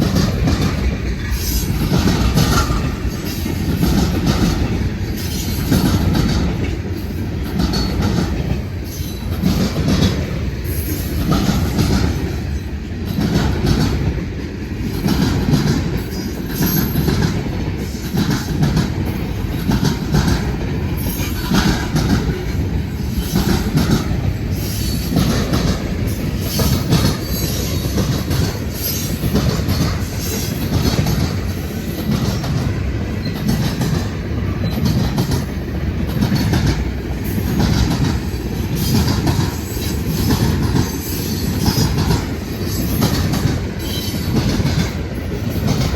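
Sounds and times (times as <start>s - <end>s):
train wheels clattering: 0.0s - 45.9s.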